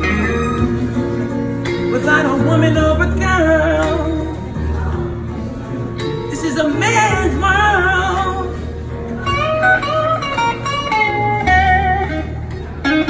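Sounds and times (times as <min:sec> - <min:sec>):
bluesy electric guitar lead: 0:00.0 - 0:13.0.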